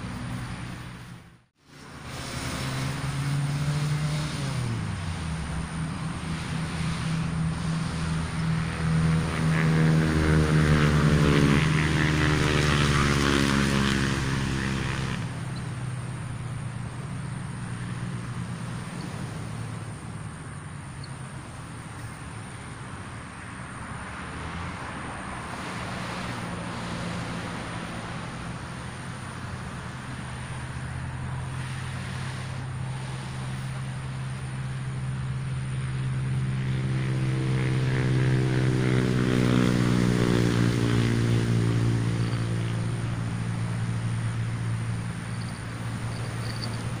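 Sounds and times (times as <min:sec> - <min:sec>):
passing motor engine drone: 0:00.0 - 0:47.0.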